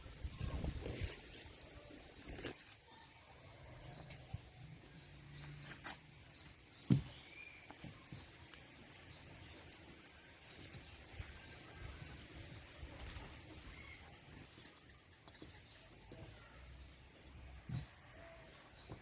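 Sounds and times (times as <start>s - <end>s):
quiet rural ambience: 0.0s - 19.0s
small birds chirping: 0.2s - 19.0s.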